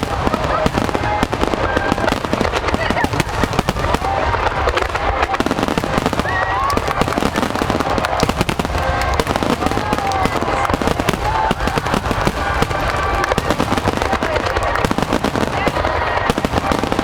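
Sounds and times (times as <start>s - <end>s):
crowd voices: 0.0s - 17.0s
fireworks bursts and crackles: 0.0s - 17.0s.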